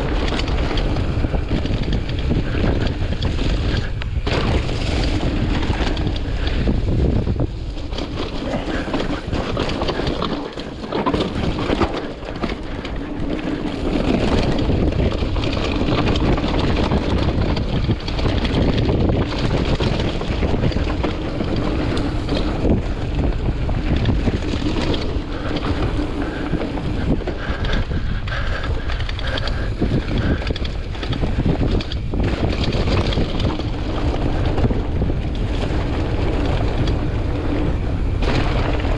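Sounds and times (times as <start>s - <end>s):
bike frame rattling: 0.0s - 38.9s
wind rushing over microphone: 0.0s - 38.9s.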